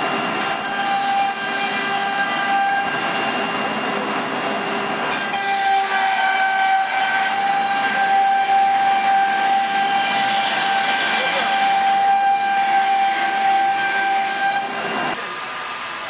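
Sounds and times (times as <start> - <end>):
router spindle high whine: 0.0 - 16.0.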